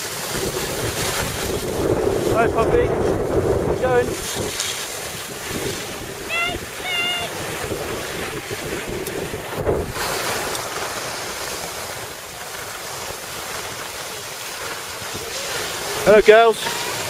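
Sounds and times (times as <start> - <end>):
wind buffeting microphone: 0.0 - 16.4
skis sliding on snow: 0.0 - 17.0.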